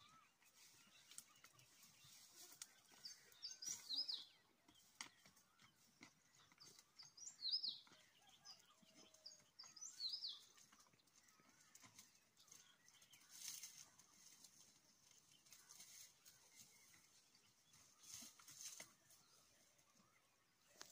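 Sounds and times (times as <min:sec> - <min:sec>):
songbird chirping: 0:00.0 - 0:20.9.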